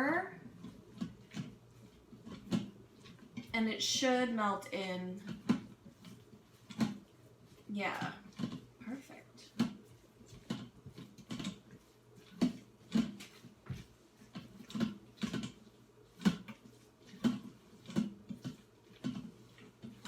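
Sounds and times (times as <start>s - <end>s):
spoon stirring thick food: 0.4s - 3.6s, 4.6s - 8.8s, 9.4s - 20.0s.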